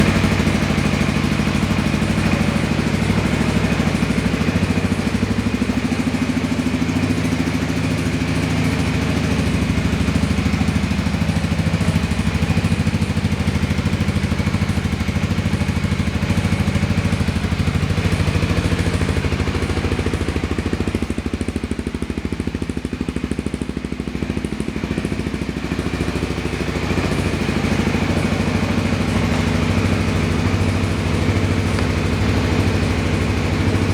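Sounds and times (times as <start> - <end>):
scooter engine idling: 0.0 - 33.9.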